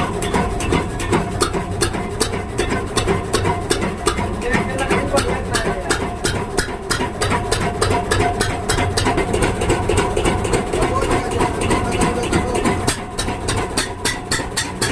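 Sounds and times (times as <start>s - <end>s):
diesel engine knocking steadily: 0.0s - 14.9s.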